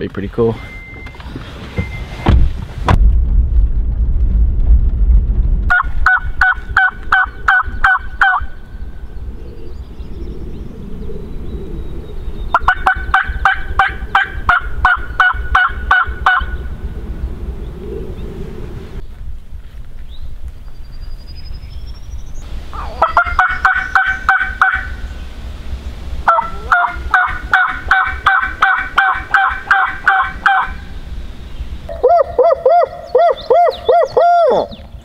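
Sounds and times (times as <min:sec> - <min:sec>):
low rumble: 0:00.6 - 0:33.9.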